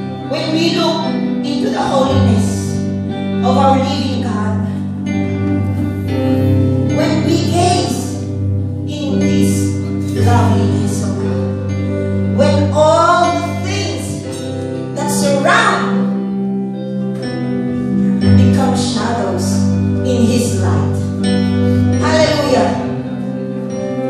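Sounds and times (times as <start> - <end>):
sustained electronic keyboard chords: 0.0 - 24.0.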